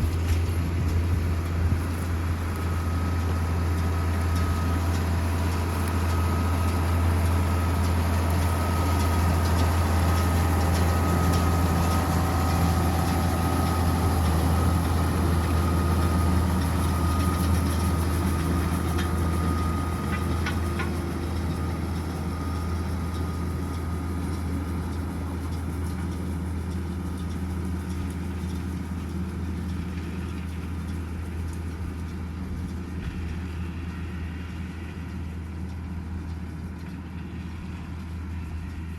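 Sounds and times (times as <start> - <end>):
high machinery whine: 0.0 - 38.9
tractor engine hum: 0.0 - 38.9.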